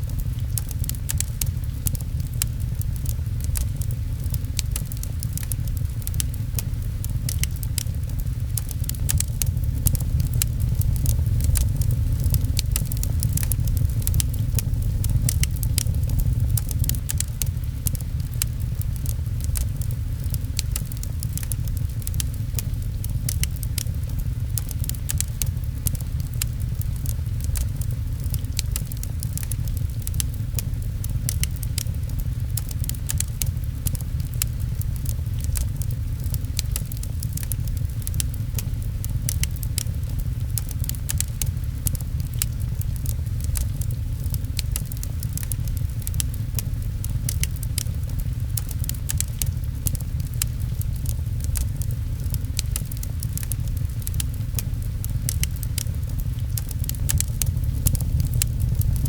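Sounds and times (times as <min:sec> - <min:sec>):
low rumble: 0:00.0 - 0:59.0
rain pattering on a window: 0:00.0 - 0:59.0
wood fire crackling and popping: 0:00.0 - 0:59.0.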